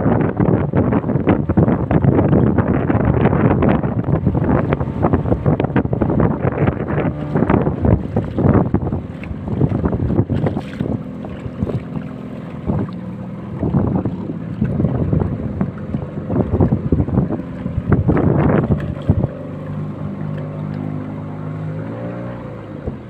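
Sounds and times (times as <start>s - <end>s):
outboard motor running: 0.0s - 23.0s
wind buffeting microphone: 0.0s - 23.0s.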